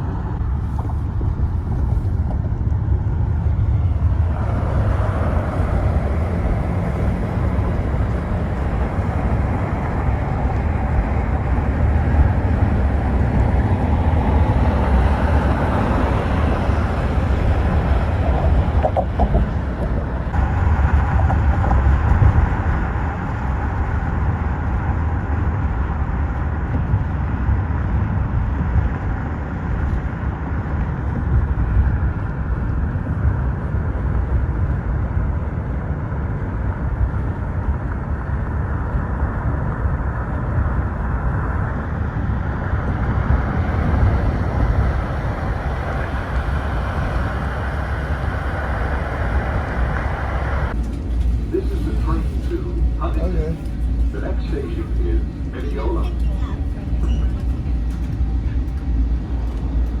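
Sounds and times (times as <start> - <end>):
train wheels rumbling on track: 0.0 - 60.0.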